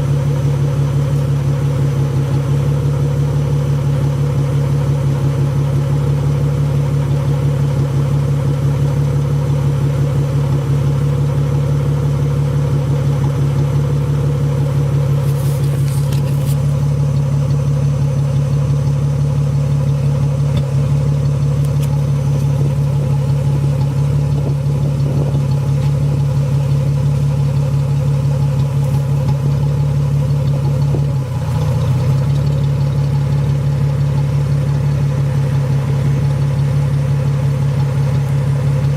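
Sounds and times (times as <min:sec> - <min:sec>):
car engine idling roughly: 0:00.0 - 0:38.9.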